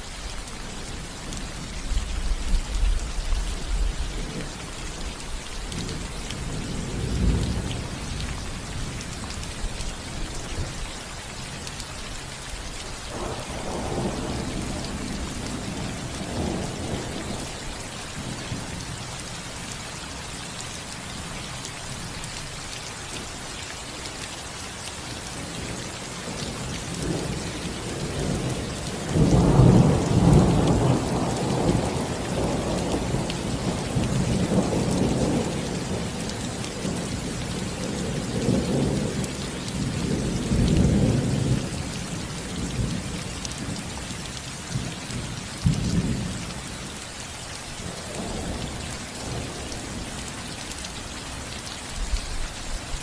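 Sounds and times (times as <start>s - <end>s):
rain on a roof: 0.0s - 53.0s.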